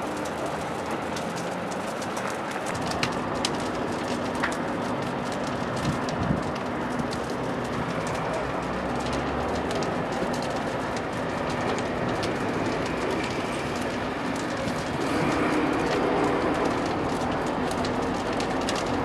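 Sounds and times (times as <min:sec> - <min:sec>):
fire rushing and crackling: 0:00.0 - 0:19.0.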